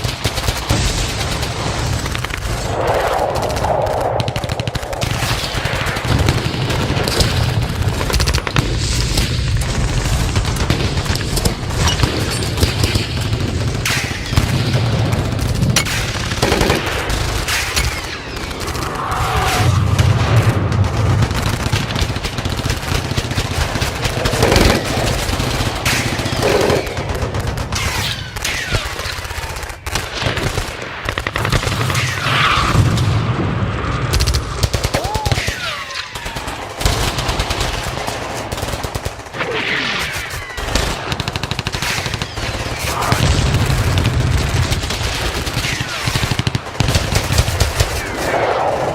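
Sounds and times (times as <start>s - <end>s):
explosions rumbling: 0.6s - 35.5s, 39.1s - 48.9s
machine-gun fire: 4.2s - 33.1s, 36.2s - 48.9s.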